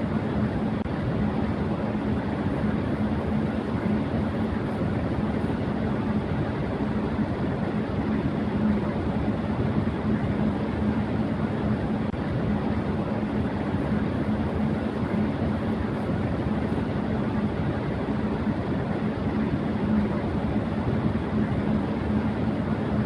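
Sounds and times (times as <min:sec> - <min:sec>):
electric fan running: 0:00.0 - 0:23.0.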